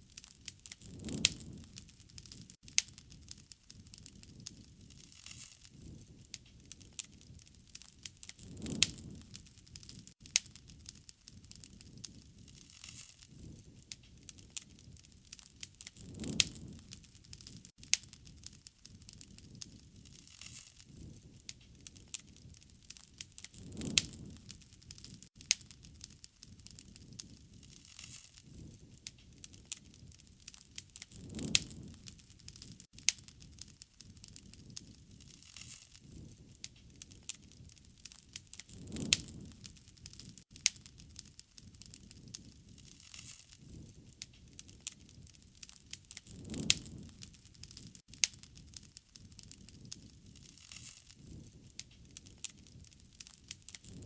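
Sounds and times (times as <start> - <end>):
soft rush of flame: 0.0 - 54.0
wood fire crackling and popping: 0.0 - 54.0.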